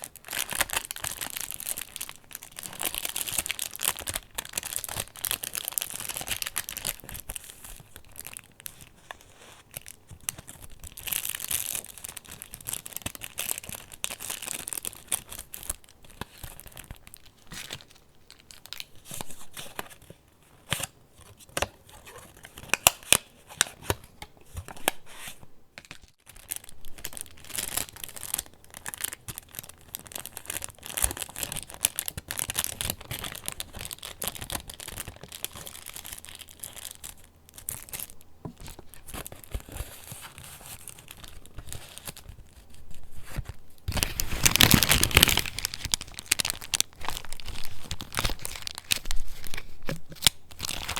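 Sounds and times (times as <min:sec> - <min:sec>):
paper pages rustling and crinkling: 0:00.0 - 0:50.9.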